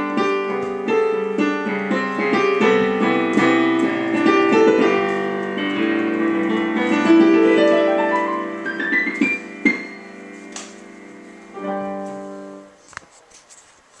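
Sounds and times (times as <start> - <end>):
solo piano: 0.0 - 14.0.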